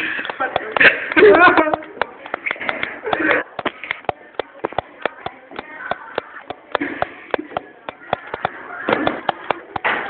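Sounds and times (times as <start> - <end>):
faint voices: 0.0 - 10.0
rapid sharp clicks: 0.2 - 9.9.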